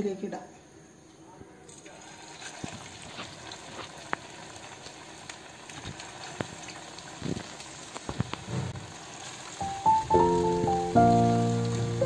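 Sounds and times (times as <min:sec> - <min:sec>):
oil bubbling and sizzling: 0:01.8 - 0:12.0.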